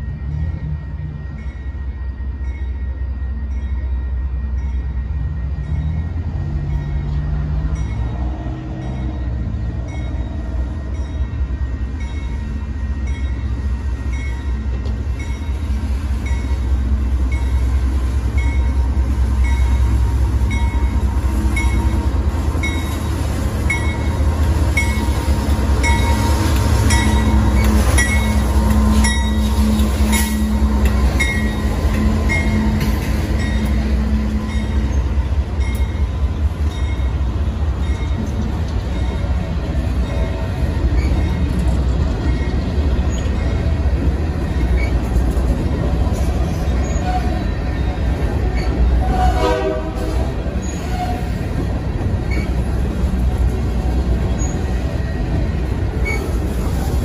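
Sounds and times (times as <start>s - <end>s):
diesel locomotive rumble: 0.0s - 57.0s.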